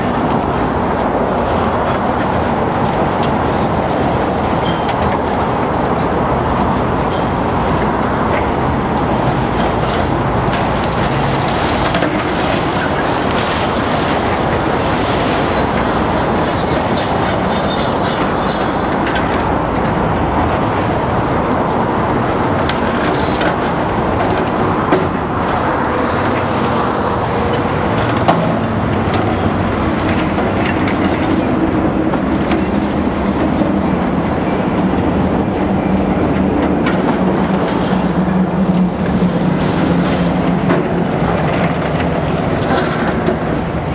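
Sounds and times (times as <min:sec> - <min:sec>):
demolition excavator engine: 0:00.0 - 0:43.9.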